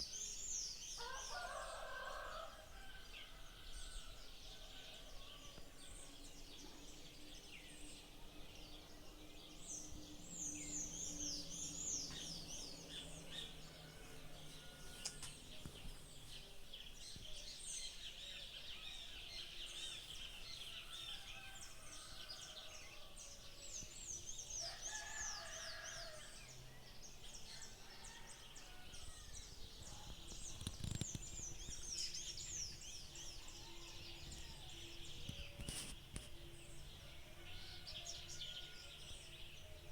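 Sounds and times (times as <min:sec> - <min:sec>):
birds chirping: 0:04.6 - 0:39.9.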